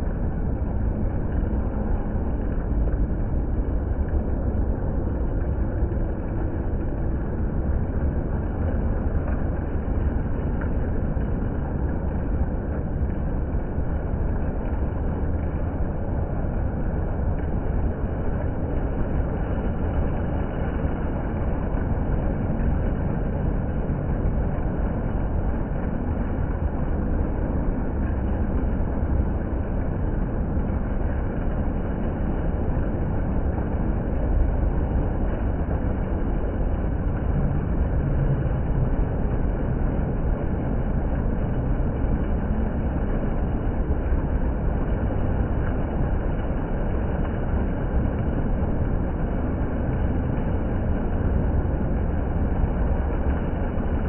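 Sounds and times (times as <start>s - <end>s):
water fountain splashing: 0.0s - 54.0s.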